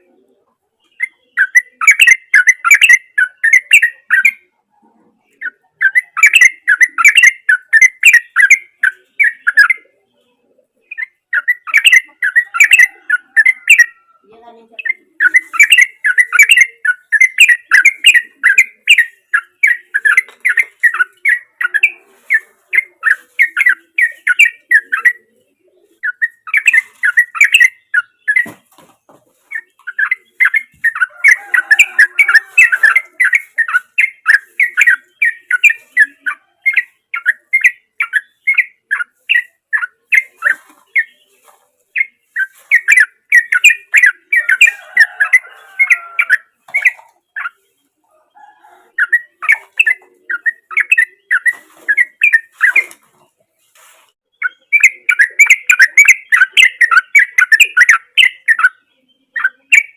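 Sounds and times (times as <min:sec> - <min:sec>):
bird singing rapid chirps: 0:00.8 - 0:04.5, 0:05.4 - 0:10.0, 0:10.8 - 0:25.3, 0:25.9 - 0:28.8, 0:29.4 - 0:47.9, 0:48.9 - 0:53.0, 0:54.2 - 0:59.9.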